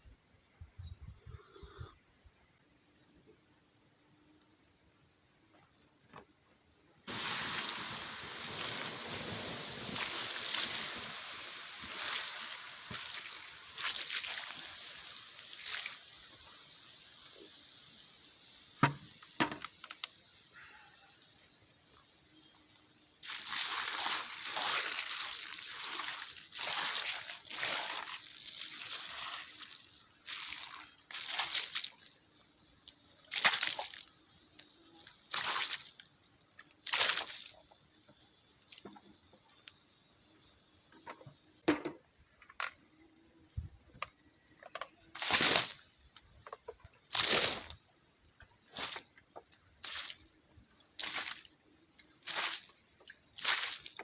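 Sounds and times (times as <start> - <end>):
water hissing on embers: 7.0 - 41.6, 44.2 - 54.0.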